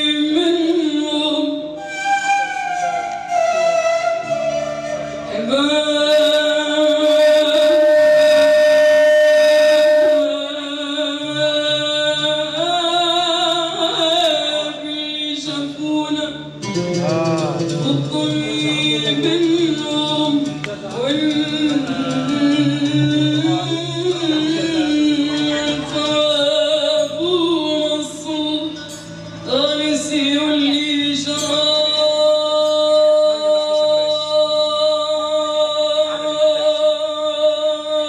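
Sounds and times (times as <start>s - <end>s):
woman singing into a microphone: 0.0s - 2.0s, 5.2s - 38.0s.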